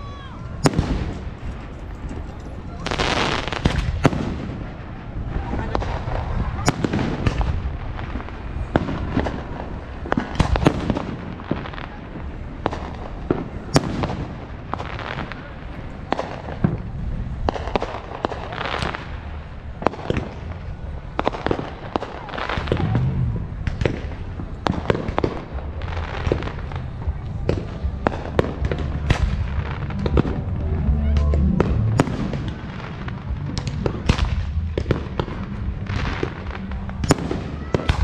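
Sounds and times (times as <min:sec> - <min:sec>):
fireworks bangs and pops: 0:00.6 - 0:38.0.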